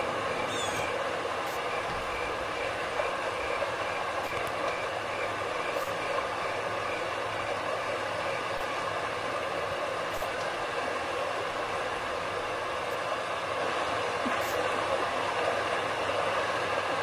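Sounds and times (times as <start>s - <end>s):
faint pulsing tone: 0.0s - 16.8s.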